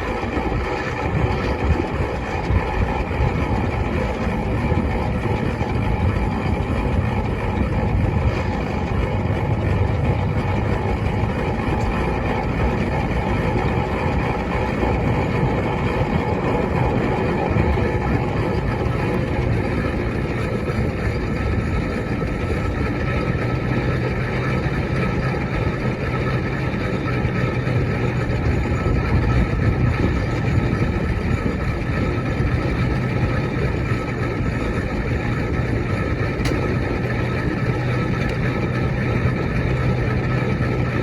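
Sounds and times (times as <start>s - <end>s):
steam engine running: 0.0s - 41.0s.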